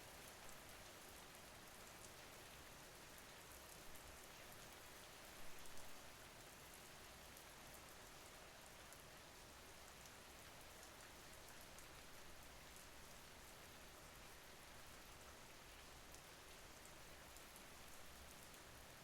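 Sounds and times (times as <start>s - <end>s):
faint rain hiss: 0.0s - 19.0s.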